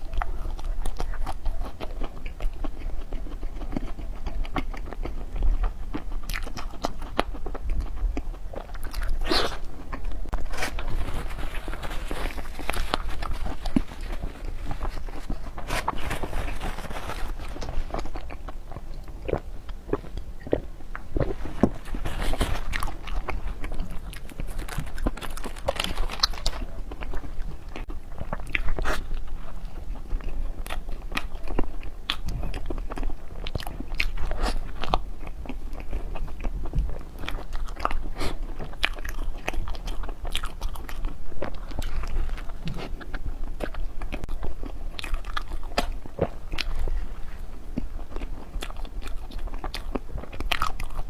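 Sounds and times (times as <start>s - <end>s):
person chewing crunchy food: 0.0s - 51.0s.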